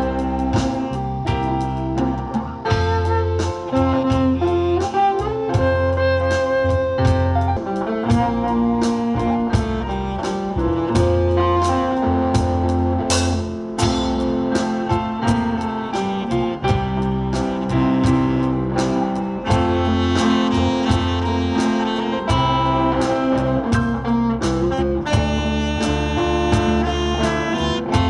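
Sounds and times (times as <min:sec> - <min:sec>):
bass: 0:00.0 - 0:28.0
drum kit beat: 0:00.0 - 0:28.0
electric guitar: 0:00.0 - 0:28.0
keyboard: 0:00.0 - 0:28.0
saxophone: 0:00.0 - 0:28.0.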